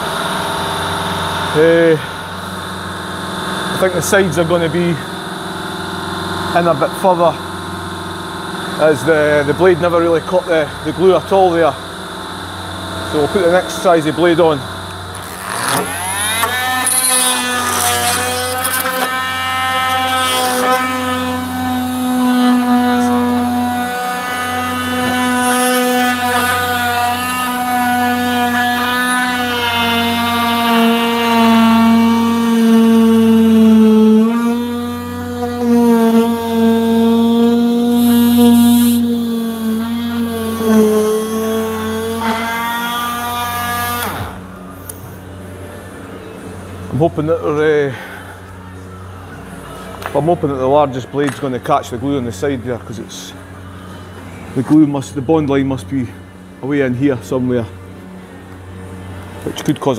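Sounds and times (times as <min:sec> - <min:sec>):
oscillating multi-tool whine: 0:00.0 - 0:59.9.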